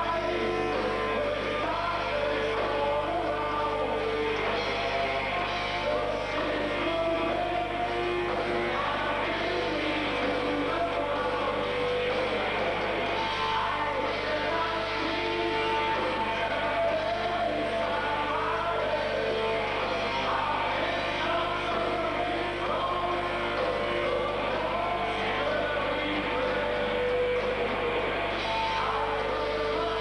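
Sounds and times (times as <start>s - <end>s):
distorted electric guitars: 0.0s - 30.0s
drums: 0.0s - 30.0s
person singing: 0.0s - 30.0s.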